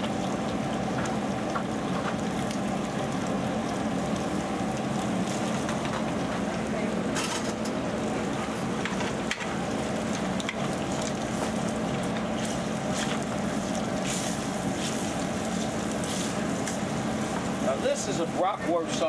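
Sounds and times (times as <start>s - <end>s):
sausage sizzling in grease: 0.0s - 19.0s
steady low hum: 0.0s - 19.0s.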